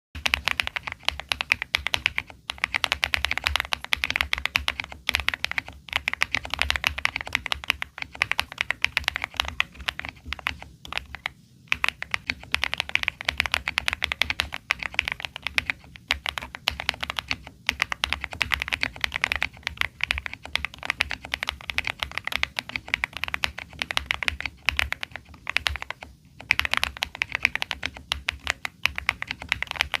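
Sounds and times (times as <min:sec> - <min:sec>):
mechanical keyboard typing: 0:00.2 - 0:30.0.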